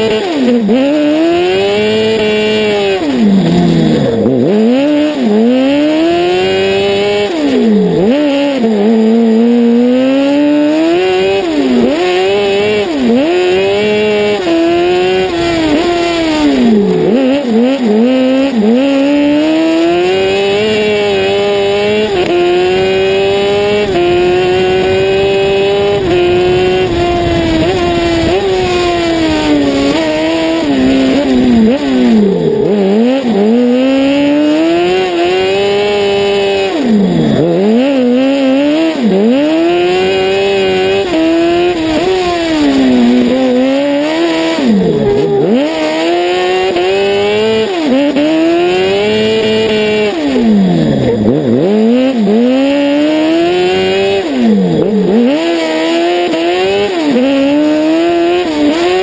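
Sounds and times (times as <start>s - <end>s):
racing engine revving: 0.0s - 59.0s.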